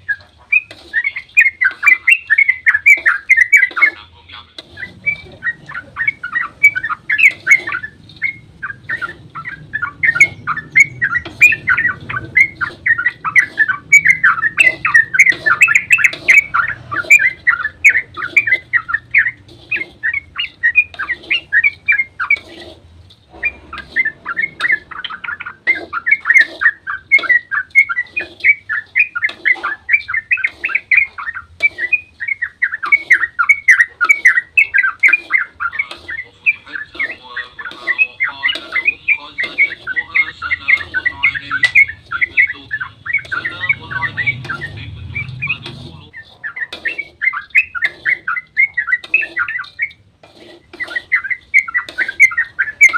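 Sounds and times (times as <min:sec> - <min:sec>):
bulbul chirping song: 0:00.0 - 0:04.0, 0:04.7 - 0:22.5, 0:23.4 - 0:50.0, 0:50.8 - 0:52.9.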